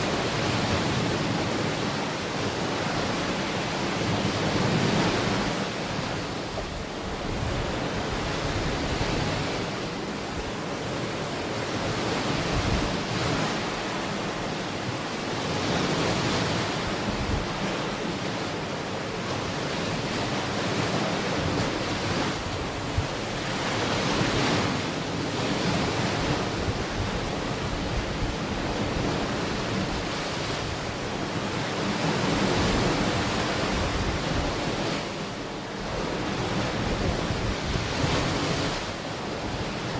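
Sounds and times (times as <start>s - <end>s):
ocean waves washing ashore: 0.0s - 39.9s
wind: 0.0s - 39.9s.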